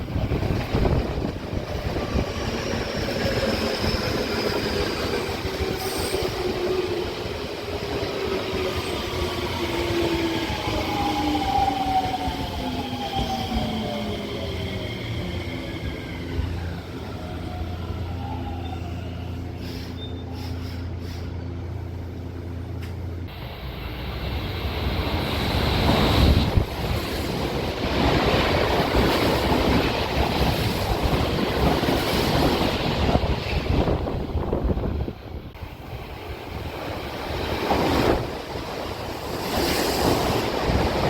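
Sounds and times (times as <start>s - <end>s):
electric train hum and whine: 0.0s - 41.0s
train passing rush: 0.0s - 41.0s.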